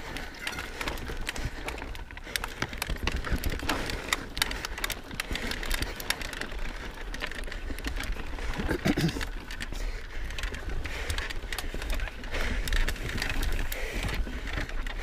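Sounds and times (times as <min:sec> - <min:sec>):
bike clicking and rattling: 0:00.0 - 0:15.0
tyres crunching over gravel: 0:00.0 - 0:15.0.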